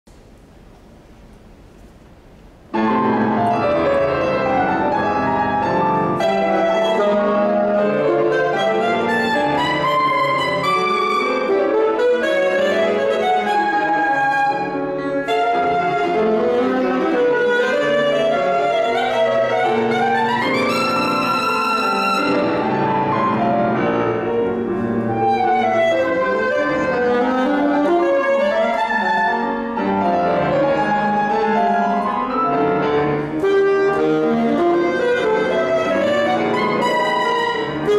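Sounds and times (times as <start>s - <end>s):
grand piano: 0.1s - 37.9s
saxophone: 2.8s - 37.9s.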